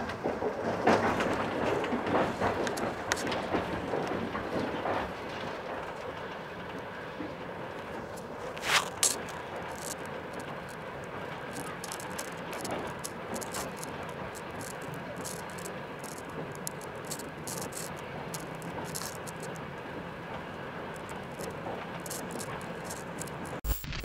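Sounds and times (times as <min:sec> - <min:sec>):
passenger train rumbling: 0:00.0 - 0:23.6
clicks and rattles: 0:00.2 - 0:06.9, 0:07.7 - 0:23.6.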